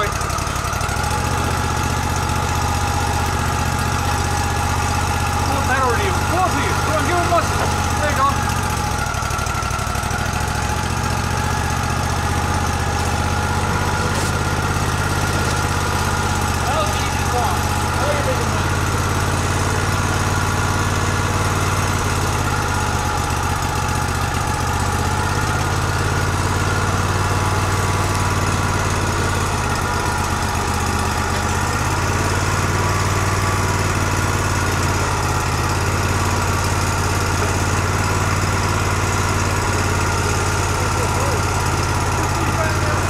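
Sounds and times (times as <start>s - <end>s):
sawmill engine droning: 0.0s - 43.0s.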